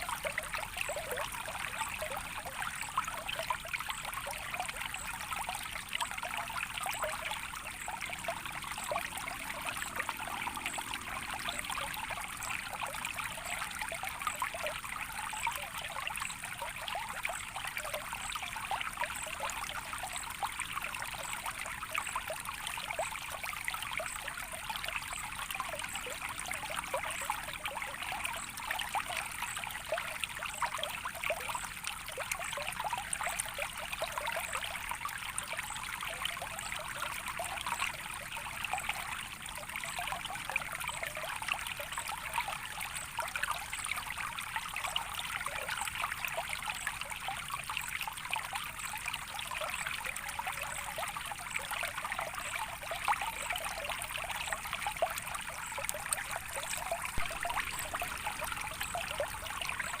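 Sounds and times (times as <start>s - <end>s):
stream trickling and babbling: 0.0s - 60.0s.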